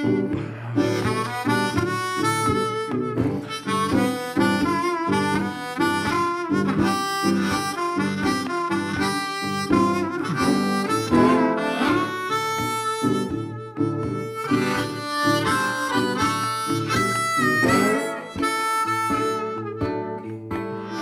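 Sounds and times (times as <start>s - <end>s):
blues harmonica and guitar: 0.0s - 21.0s.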